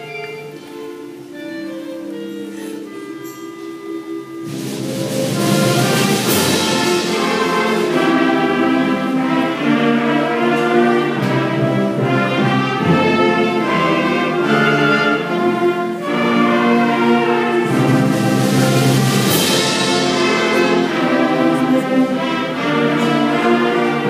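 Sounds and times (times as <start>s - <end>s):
band playing sustained chords: 0.0s - 24.0s.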